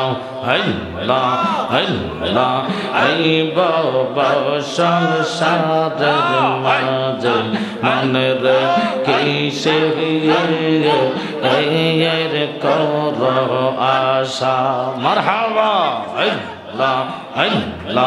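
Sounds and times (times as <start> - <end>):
men chanting low in a group: 0.0 - 18.0.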